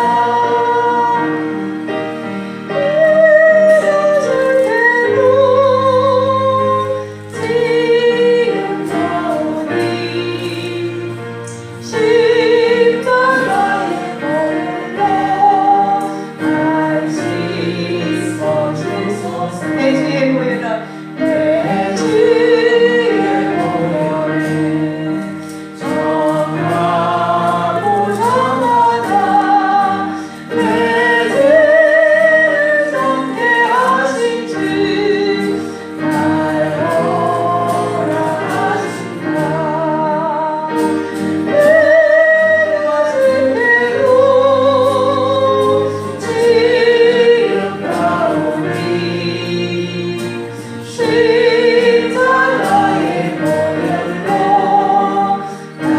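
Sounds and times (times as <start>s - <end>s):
people singing a hymn: 0.0s - 55.9s.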